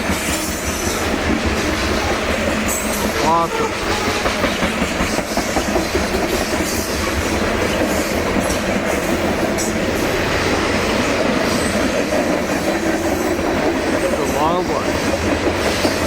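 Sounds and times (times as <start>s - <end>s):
train wheels rumbling on rail: 0.0s - 16.0s
wheels clickety-clack over track: 0.0s - 16.0s.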